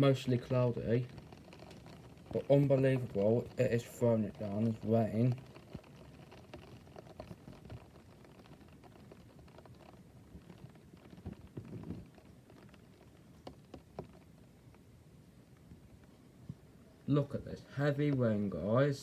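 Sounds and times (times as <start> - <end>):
heavy rain on a window: 0.0 - 19.0.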